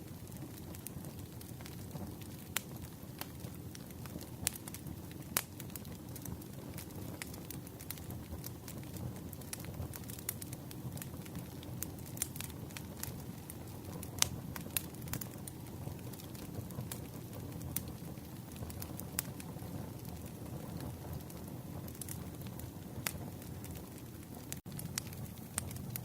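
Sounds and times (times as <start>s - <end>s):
campfire flame rushing: 0.0s - 26.0s
fire crackles and pops: 0.0s - 26.0s.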